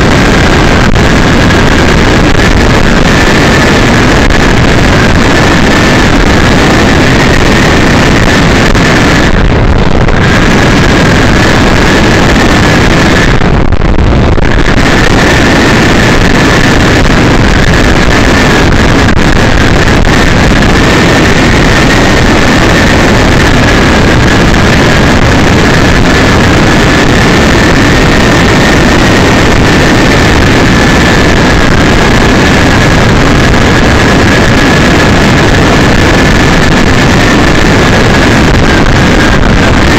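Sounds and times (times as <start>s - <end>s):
car road and engine noise: 0.0s - 39.9s
constant high whine: 0.0s - 39.9s.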